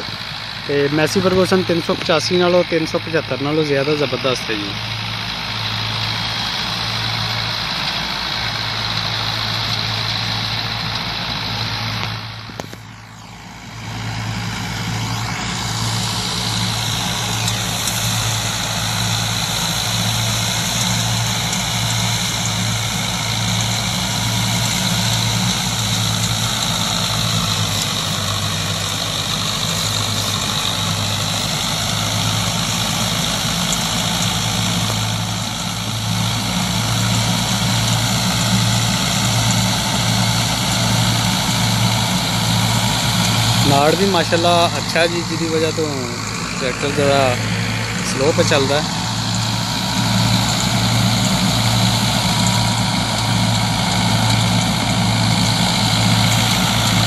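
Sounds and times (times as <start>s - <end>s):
straw chopper whirring: 0.0s - 57.0s
tractor engine running: 0.0s - 57.0s.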